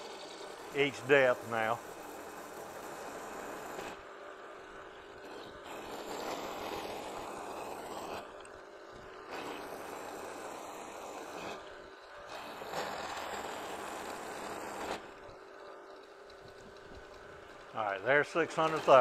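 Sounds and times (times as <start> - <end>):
mill cutting metal: 0.0 - 19.0.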